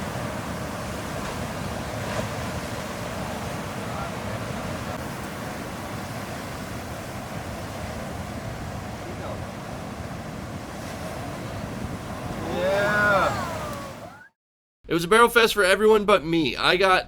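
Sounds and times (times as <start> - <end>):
wind buffeting microphone: 0.0 - 14.1
ocean surf rushing: 0.0 - 14.2.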